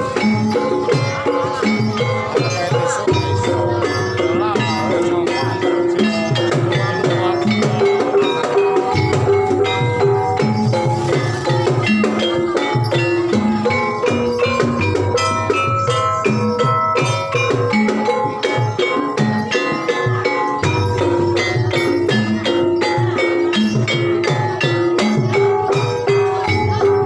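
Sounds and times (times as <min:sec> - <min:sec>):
hand drum strokes: 0:00.0 - 0:27.0
metallophone ringing notes: 0:00.0 - 0:27.0.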